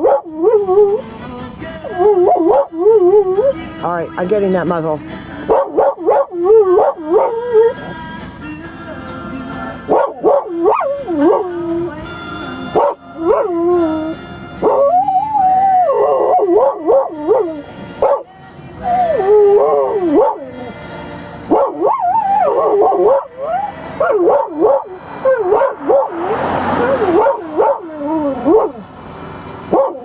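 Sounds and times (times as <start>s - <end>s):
dog howling and yipping: 0.0s - 4.2s, 5.5s - 9.1s, 9.7s - 12.0s, 12.7s - 20.8s, 21.5s - 30.0s.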